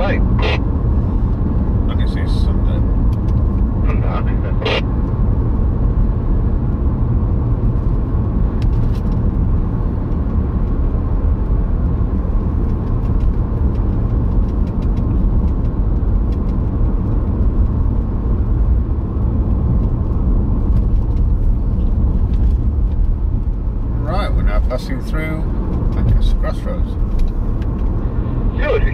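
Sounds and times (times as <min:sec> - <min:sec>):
car road and engine noise: 0:00.0 - 0:28.9.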